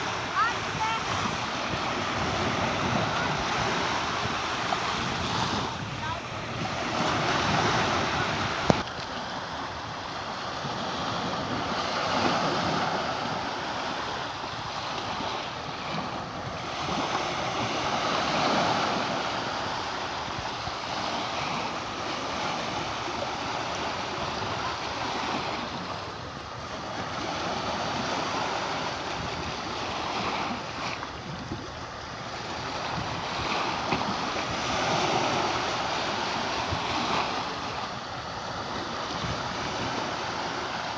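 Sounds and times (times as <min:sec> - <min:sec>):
waves washing onto beach: 0:00.0 - 0:40.9
wind on microphone: 0:00.0 - 0:40.9.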